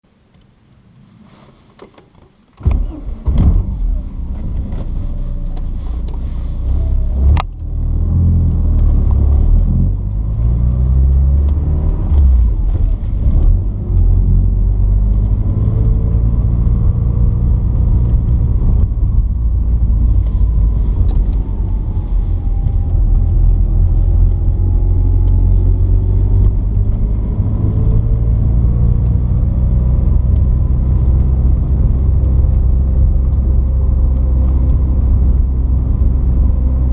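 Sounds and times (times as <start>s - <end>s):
car engine starting and running: 2.3s - 36.9s.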